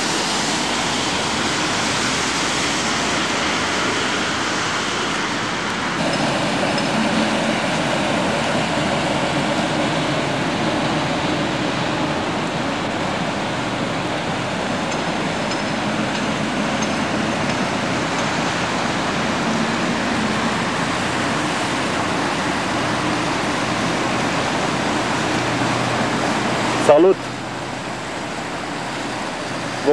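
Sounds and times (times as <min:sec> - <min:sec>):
city traffic: 0:00.0 - 0:29.9
train rumble and hiss: 0:00.0 - 0:29.9.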